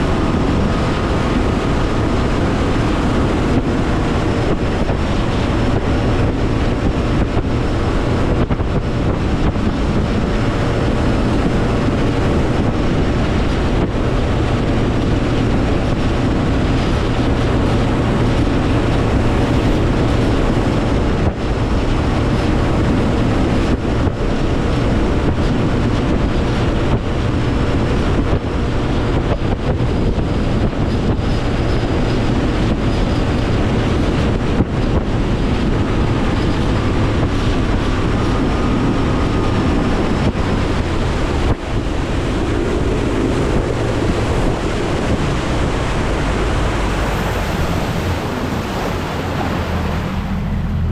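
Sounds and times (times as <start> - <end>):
outboard motor running: 0.0 - 50.9
wind buffeting microphone: 0.0 - 50.9.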